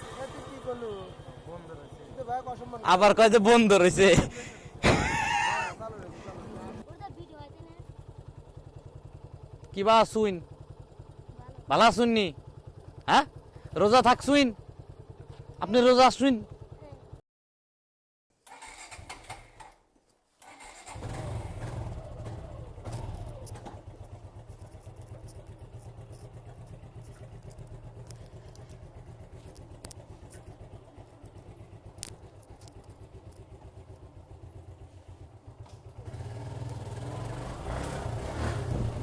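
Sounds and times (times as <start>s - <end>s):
motorcycle engine idling: 0.0s - 17.2s, 20.8s - 37.9s.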